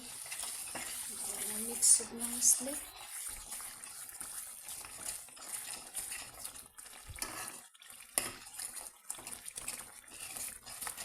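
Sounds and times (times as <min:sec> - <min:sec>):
spoon scraping and knocking a pot: 0:00.0 - 0:11.0.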